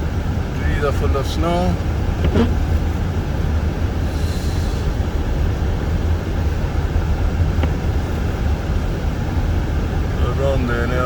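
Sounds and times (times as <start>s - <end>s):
car engine hum: 0.0s - 11.0s
tyre and road rumble: 0.0s - 11.0s.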